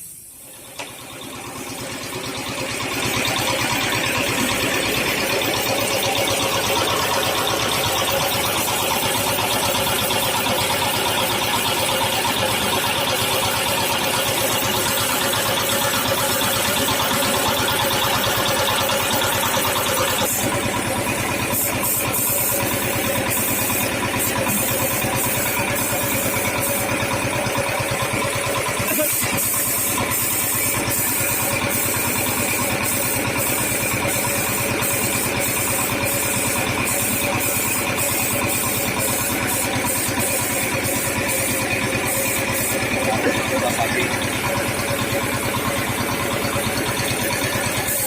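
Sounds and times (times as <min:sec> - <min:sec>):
motor running: 0:00.6 - 0:48.0
paint spray hissing: 0:03.3 - 0:27.7, 0:28.6 - 0:48.0.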